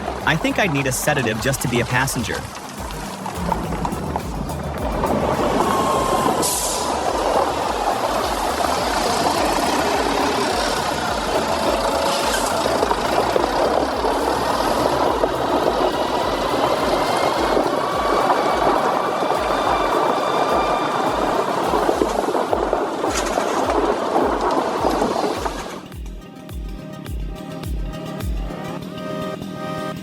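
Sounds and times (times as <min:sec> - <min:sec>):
heavy truck engine running: 0:00.0 - 0:25.8.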